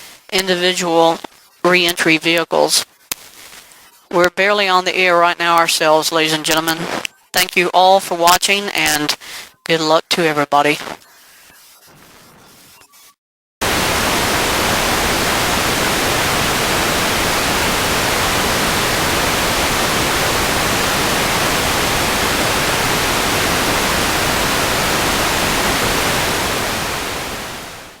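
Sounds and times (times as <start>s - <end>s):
television static hiss: 0.0s - 12.4s, 13.6s - 28.0s.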